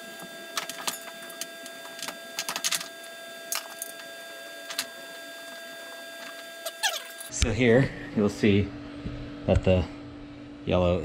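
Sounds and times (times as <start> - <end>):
faint steady whine: 0.0 - 11.0.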